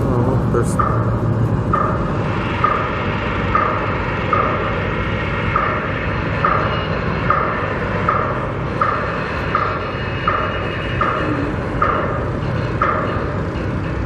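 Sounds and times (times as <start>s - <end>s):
steady low rumble: 0.0s - 13.6s
reversing alarm beeping: 0.6s - 14.0s.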